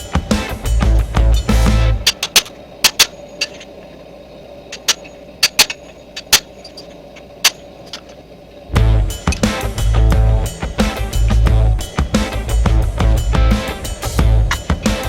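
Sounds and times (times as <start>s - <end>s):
machine humming: 0.0s - 15.0s
sharp metallic clicks: 0.3s - 3.8s, 4.7s - 8.2s, 9.2s - 15.0s.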